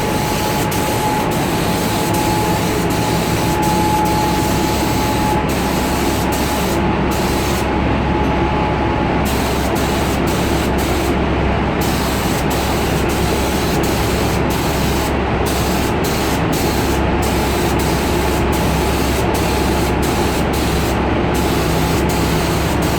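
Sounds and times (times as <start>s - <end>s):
paint spray gun hissing: 0.0s - 7.7s, 9.3s - 11.2s, 11.8s - 22.9s
steady machine hum: 0.0s - 22.9s.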